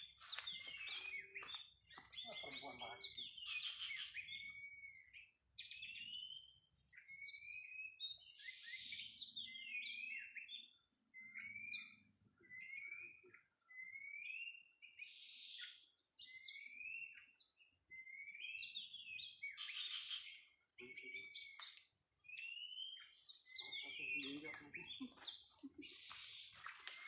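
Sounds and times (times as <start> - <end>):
bird whistling song: 0.0 - 27.0.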